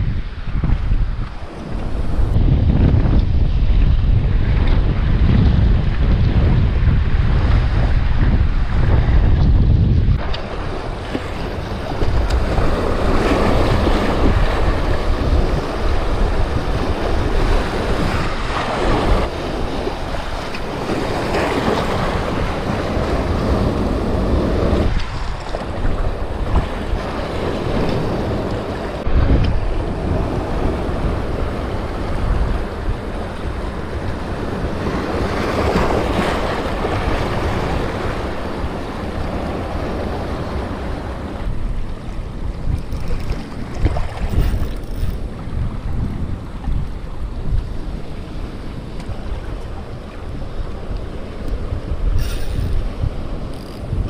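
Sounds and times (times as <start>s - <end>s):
surf washing over rocks: 0.0s - 54.0s
wind buffeting microphone: 0.0s - 54.0s.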